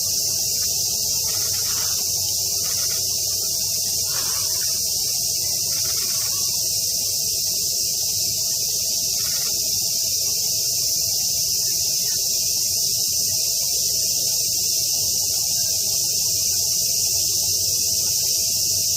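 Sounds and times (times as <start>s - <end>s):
cicadas buzzing: 0.0s - 18.9s.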